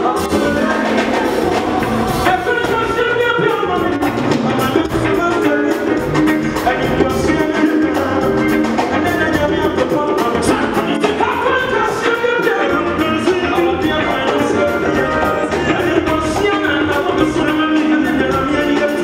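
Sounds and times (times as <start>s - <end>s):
gospel band playing steady beat: 0.0s - 19.0s
man singing into microphone: 0.0s - 19.0s.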